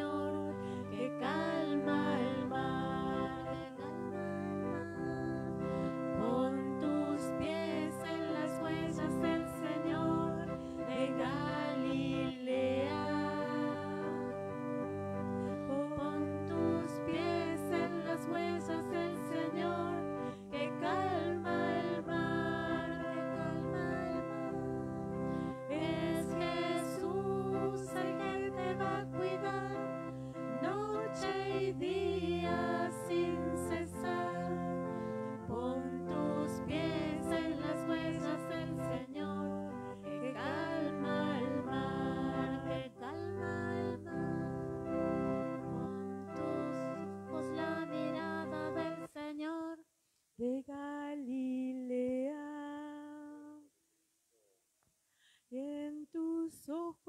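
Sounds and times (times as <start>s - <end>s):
sustained keyboard chords: 0.0s - 49.1s
person singing a hymn: 0.0s - 49.8s.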